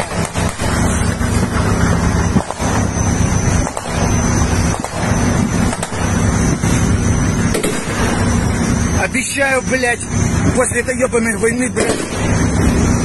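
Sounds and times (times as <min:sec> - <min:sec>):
tracked vehicle engine running: 0:00.0 - 0:13.0.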